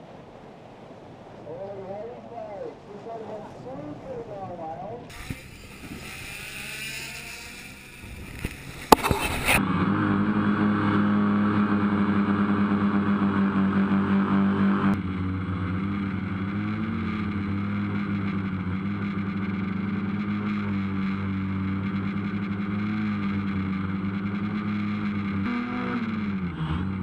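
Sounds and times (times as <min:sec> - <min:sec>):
wind: 0:00.0 - 0:27.0
motorboat engine running: 0:04.8 - 0:27.0.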